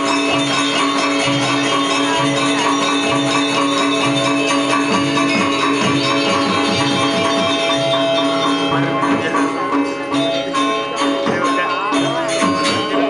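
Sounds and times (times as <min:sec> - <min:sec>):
gamelan playing: 0:00.0 - 0:13.0.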